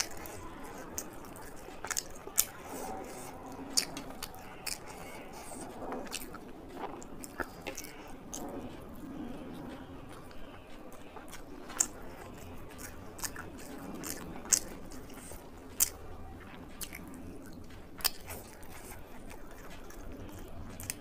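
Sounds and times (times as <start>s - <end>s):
lip-smacking clicks: 0.0s - 21.0s
wet chewing: 0.0s - 21.0s.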